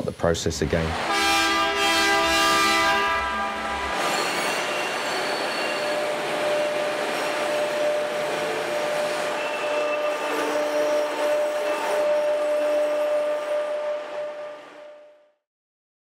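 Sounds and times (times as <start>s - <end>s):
train rumbling on rails: 0.8s - 15.0s
train horn blast: 0.9s - 15.4s
thin whine from wheels: 2.1s - 15.4s.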